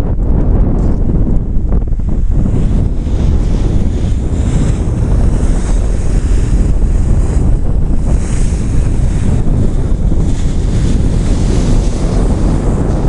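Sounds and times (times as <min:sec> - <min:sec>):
wind buffeting microphone: 0:00.0 - 0:13.0
sea washing: 0:00.3 - 0:13.0.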